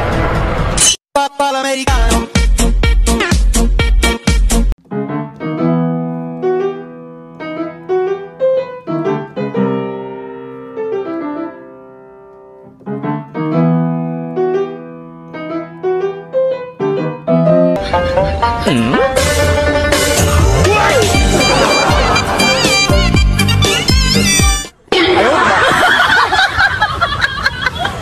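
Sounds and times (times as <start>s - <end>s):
background piano music: 2.1s - 24.7s.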